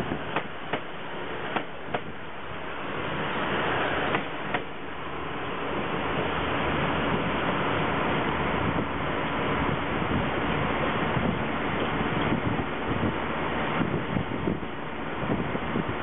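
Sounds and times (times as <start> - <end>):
train engines and wheels rumbling: 0.0 - 16.0.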